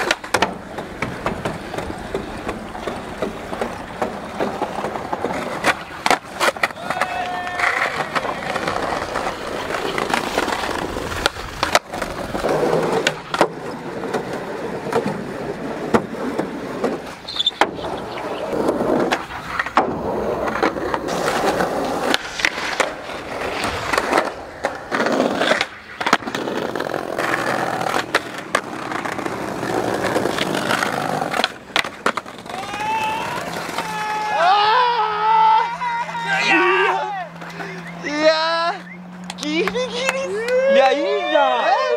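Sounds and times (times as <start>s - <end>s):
skateboard cracks and landings: 0.0s - 34.2s
skateboard wheels rolling: 0.0s - 41.9s.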